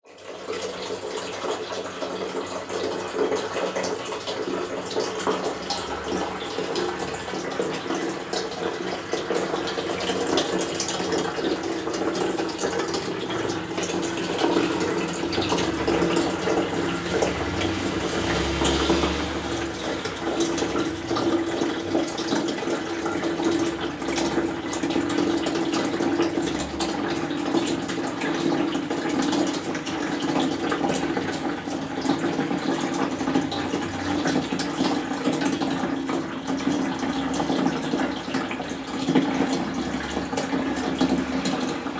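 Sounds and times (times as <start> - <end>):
toilet flush water rushing: 0.0 - 41.9.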